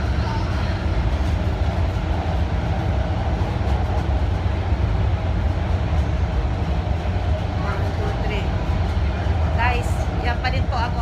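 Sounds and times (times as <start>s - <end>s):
metro train low rumble: 0.0s - 11.0s.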